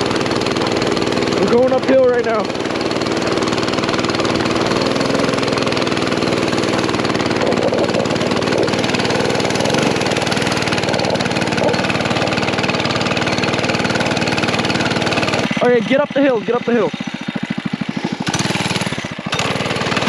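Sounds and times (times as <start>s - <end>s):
small engine running under load: 0.0s - 20.0s.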